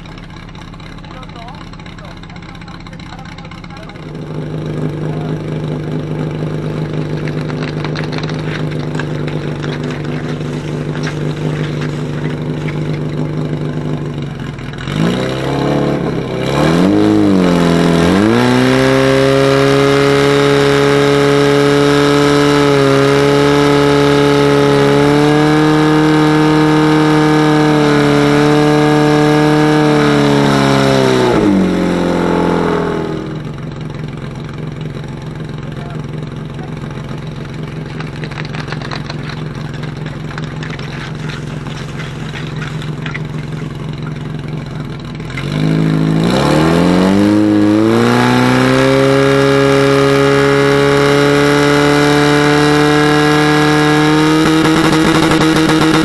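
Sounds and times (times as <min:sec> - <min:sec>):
pump engine running and revving: 0:00.0 - 0:56.0.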